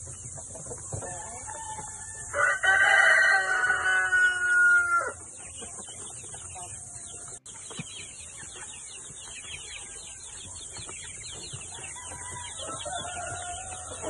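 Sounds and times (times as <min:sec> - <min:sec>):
chicks peeping and chirping: 0:00.0 - 0:14.0.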